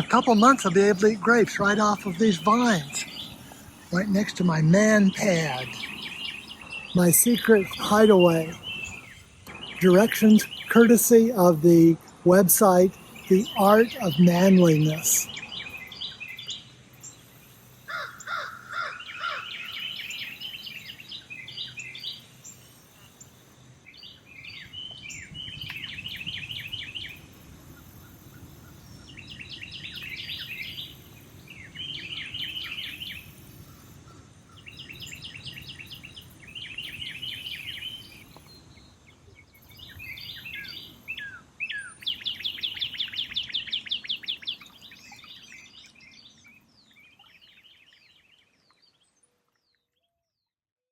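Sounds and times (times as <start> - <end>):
lower bird calls: 0.0 - 49.2
songbird singing: 0.0 - 50.7.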